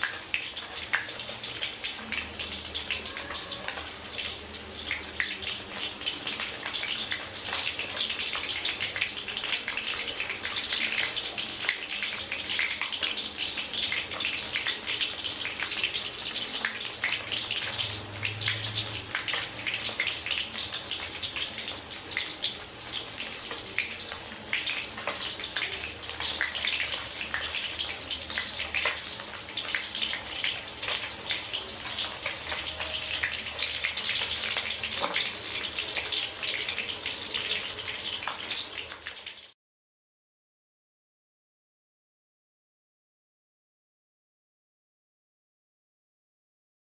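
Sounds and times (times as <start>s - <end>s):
fish sizzling in hot oil: 0.0s - 39.6s.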